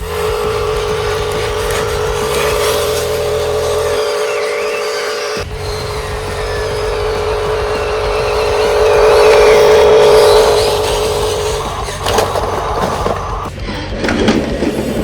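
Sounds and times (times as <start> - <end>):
electric motor and gearbox whining: 0.0 - 15.0.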